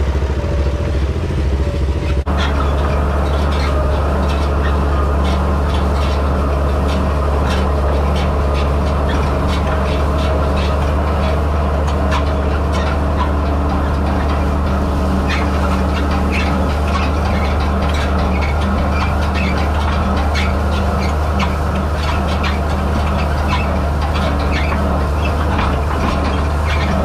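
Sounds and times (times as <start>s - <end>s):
tractor diesel engine under load: 0.0s - 27.0s.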